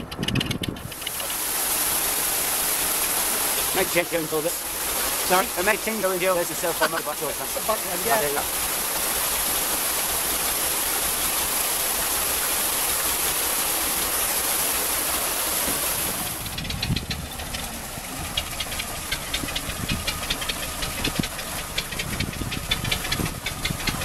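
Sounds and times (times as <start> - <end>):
diesel engine idling with knocking: 0.0 - 24.0
water rushing into lock: 0.0 - 24.0.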